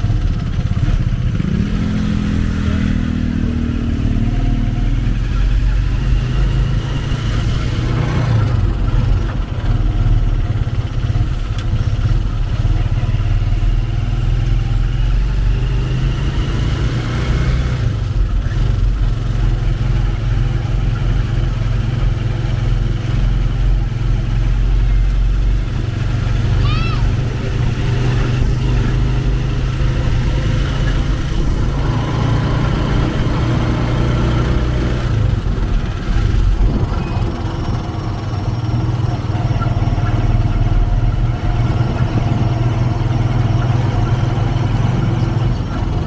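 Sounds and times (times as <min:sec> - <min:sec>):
motorcycle engine droning: 0:00.0 - 0:46.0.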